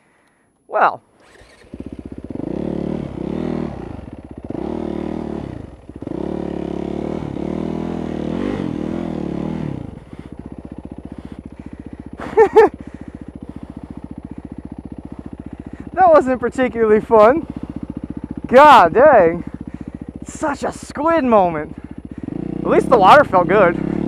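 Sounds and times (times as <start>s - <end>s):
motorcycle engine revving and idling: 1.2s - 24.0s.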